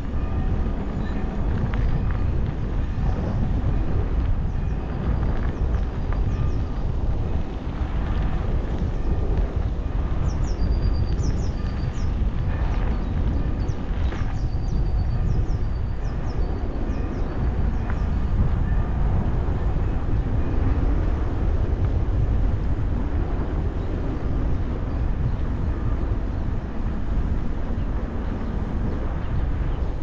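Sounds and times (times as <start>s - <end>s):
bicycle tyres rolling: 0.0s - 30.0s
wind buffeting microphone: 0.0s - 30.0s.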